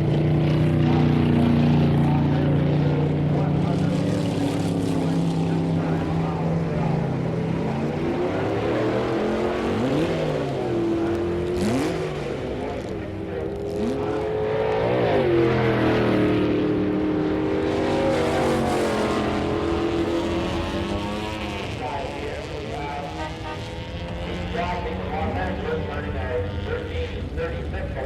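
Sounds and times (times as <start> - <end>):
car engines revving: 0.0 - 28.0
engine at full throttle: 0.0 - 28.0.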